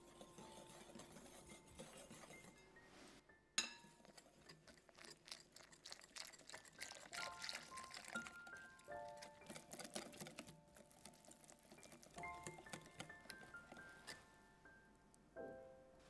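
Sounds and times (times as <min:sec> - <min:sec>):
whisk scraping glass bowl: 0:00.0 - 0:02.7, 0:04.0 - 0:14.3.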